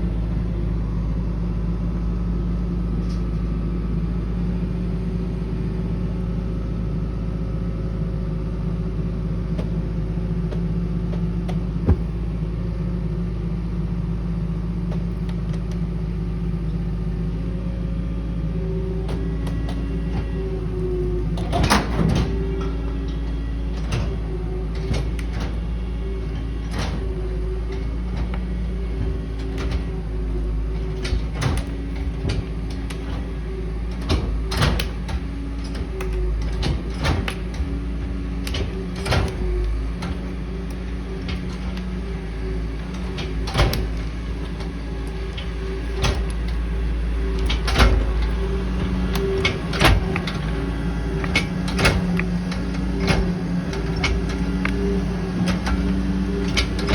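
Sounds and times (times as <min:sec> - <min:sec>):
engine running: 0:00.0 - 0:56.9
vehicle rattles and clunks: 0:00.0 - 0:56.9.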